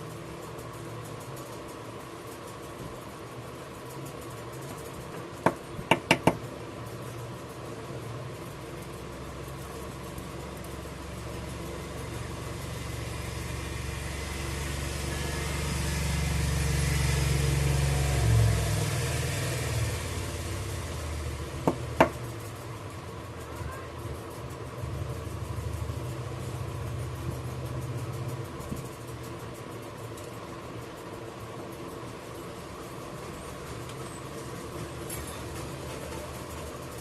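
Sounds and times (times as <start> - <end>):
hot-air station humming and blowing: 0.0 - 37.0.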